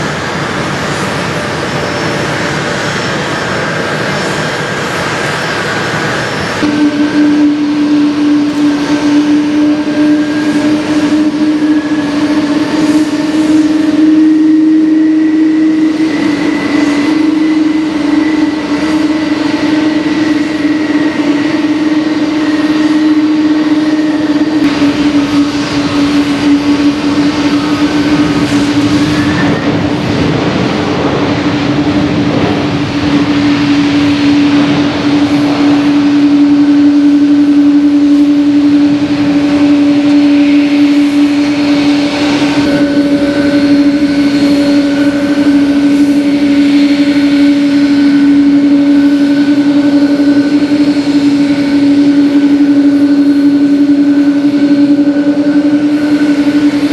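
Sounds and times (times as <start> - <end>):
jet engine rushing noise: 0.0 - 56.9
jet engines whining: 0.0 - 56.9.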